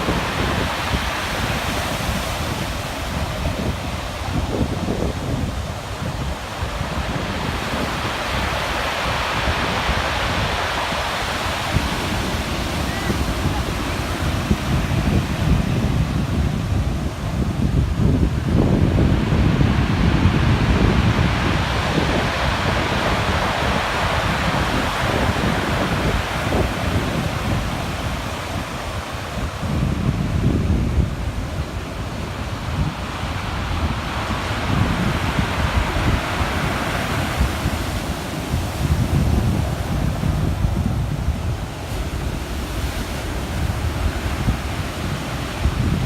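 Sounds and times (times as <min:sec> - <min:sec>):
ocean surf breaking: 0:00.0 - 0:46.0
wind buffeting the microphone: 0:00.0 - 0:46.0.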